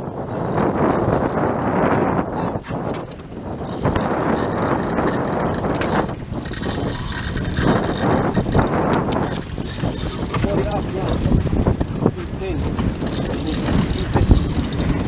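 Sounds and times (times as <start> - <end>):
sea water rushing: 0.0 - 15.0
wind rushing: 0.0 - 15.0.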